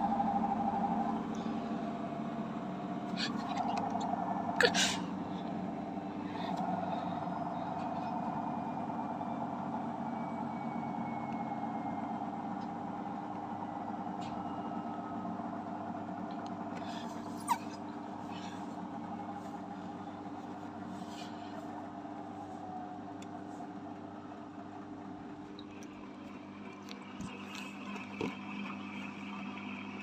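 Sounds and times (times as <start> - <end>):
washing machine spin hum: 0.0 - 30.0.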